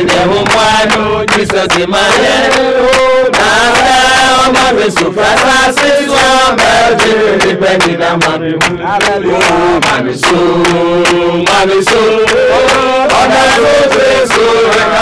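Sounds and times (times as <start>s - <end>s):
group singing a church chorus: 0.0s - 15.0s
steady hand-clapping: 0.0s - 15.0s.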